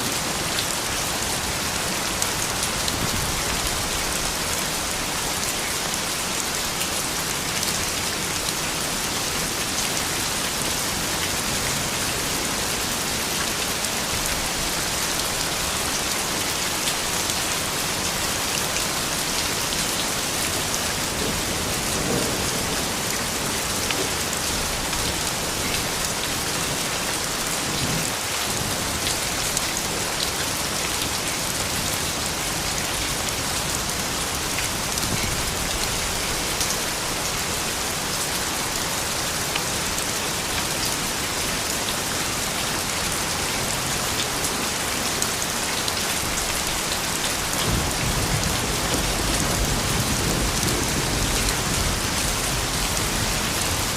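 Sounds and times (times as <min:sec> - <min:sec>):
rain falling on surfaces: 0:00.0 - 0:53.9.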